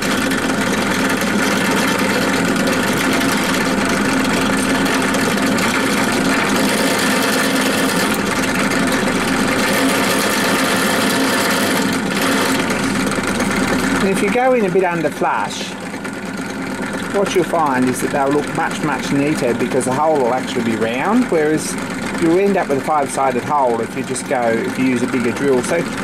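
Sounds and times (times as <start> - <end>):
drill press cutting metal: 0.0 - 26.0.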